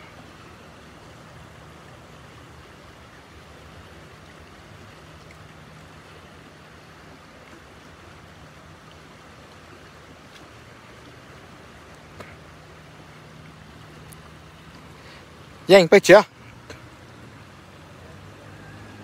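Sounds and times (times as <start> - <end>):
river rushing over riffle: 0.0 - 19.0.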